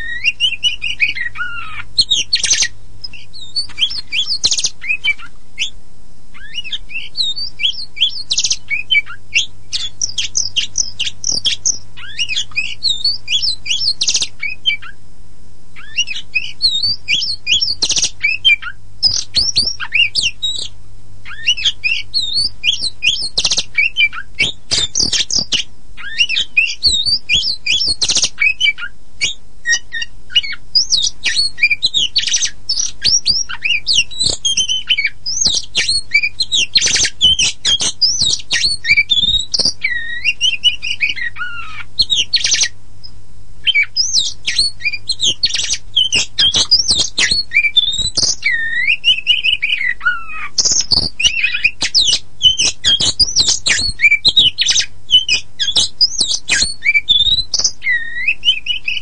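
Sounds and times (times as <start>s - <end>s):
bird singing chirps and whistles: 0.0s - 15.0s, 15.8s - 59.0s.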